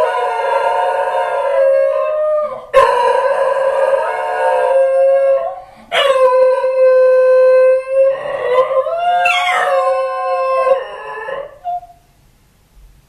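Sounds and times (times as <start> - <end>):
dogs howling: 0.0 - 11.9.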